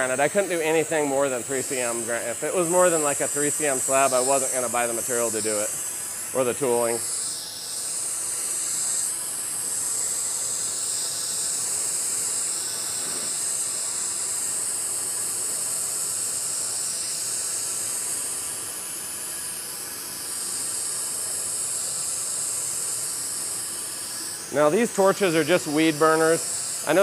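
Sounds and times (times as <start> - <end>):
propane torch hissing: 0.0 - 27.0.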